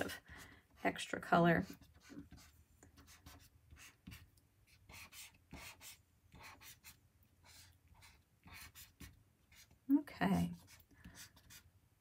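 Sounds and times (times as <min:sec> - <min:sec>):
marker scratching on paper: 0:00.0 - 0:11.7.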